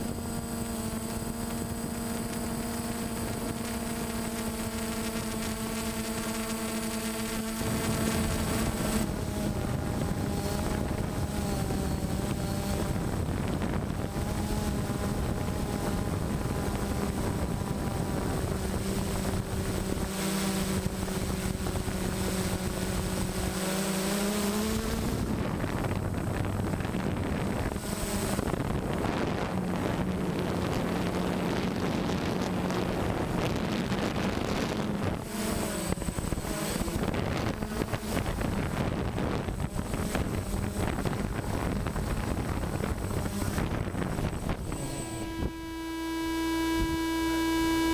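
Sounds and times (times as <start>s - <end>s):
motor running: 0.0s - 47.9s
wind noise on microphone: 0.0s - 47.9s.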